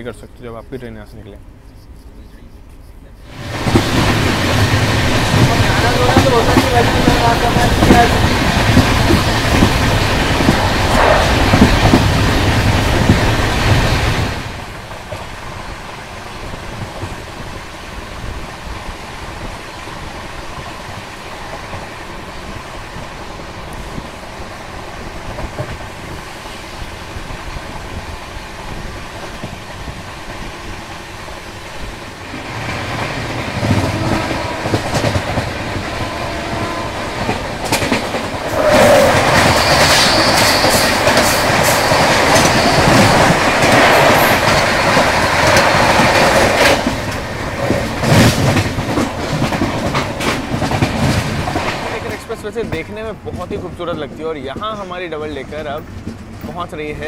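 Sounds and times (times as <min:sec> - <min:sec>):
passing train rush: 0:00.0 - 0:57.0
train wheels clickety-clack: 0:02.1 - 0:57.0.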